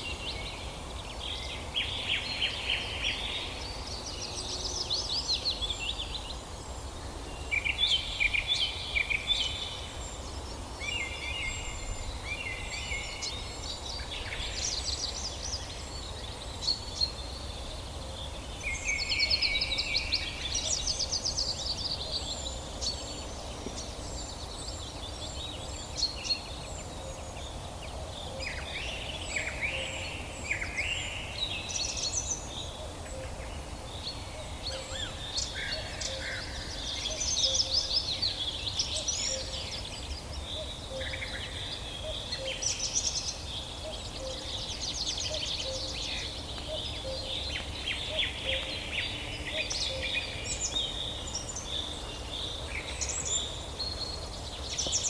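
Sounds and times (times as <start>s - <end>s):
birds singing and calling: 0.0s - 55.0s.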